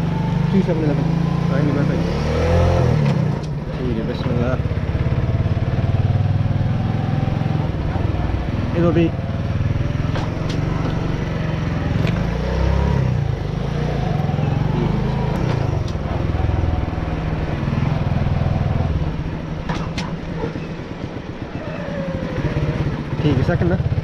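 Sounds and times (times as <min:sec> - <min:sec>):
small motorbike engine: 0:00.0 - 0:24.0.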